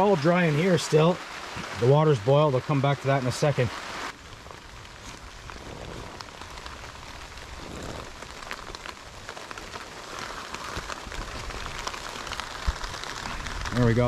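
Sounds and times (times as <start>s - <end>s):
rain on a tarp and leaves: 0.0s - 14.0s.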